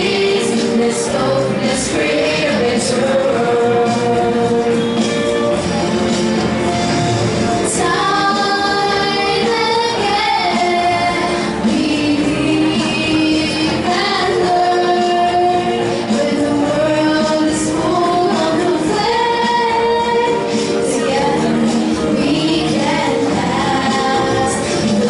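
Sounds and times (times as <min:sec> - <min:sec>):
children singing: 0:00.0 - 0:25.0
instrumental accompaniment: 0:00.0 - 0:25.0.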